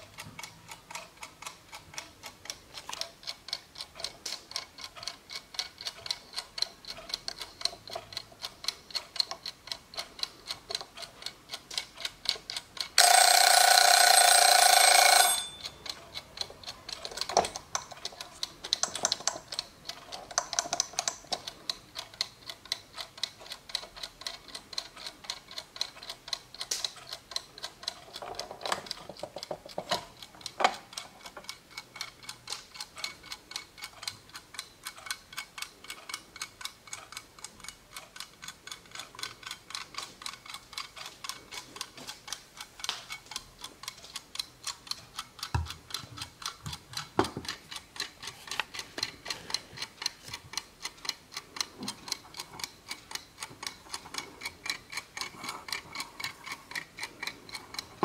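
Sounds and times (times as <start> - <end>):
kitchen timer ticking: 0.0 - 58.0
timer dial knocks and rubbing: 0.0 - 58.0.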